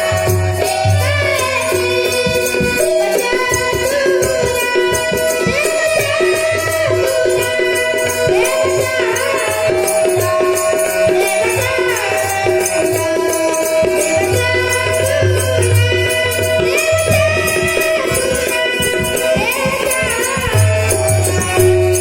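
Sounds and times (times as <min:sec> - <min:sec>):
child singing: 0:00.0 - 0:22.0
drum keeping time: 0:00.0 - 0:22.0
harmonium: 0:00.0 - 0:22.0
jingling hand percussion: 0:00.0 - 0:22.0.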